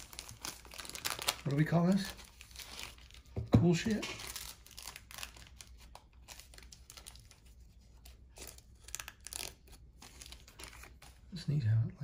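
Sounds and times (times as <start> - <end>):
wrapper and cards rustling: 0.0 - 11.4.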